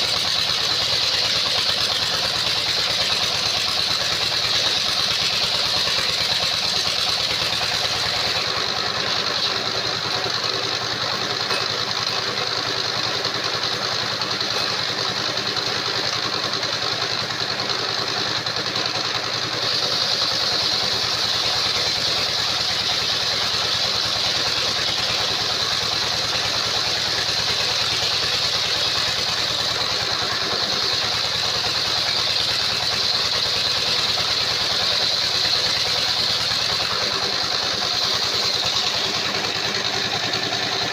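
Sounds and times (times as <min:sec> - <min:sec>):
sawmill engine and saw blade: 0:00.0 - 0:40.9.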